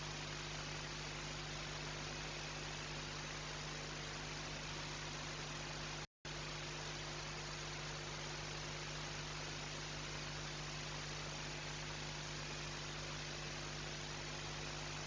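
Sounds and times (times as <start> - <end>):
electrical hiss: 0.0 - 15.0
low mains hum: 0.0 - 15.0.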